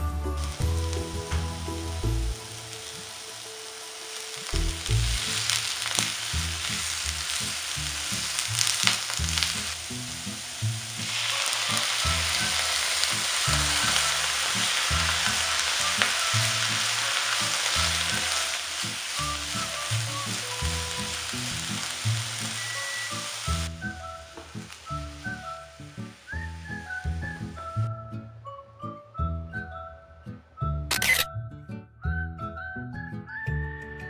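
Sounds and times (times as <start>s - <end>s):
food sizzling in a frying pan: 0.3s - 27.7s.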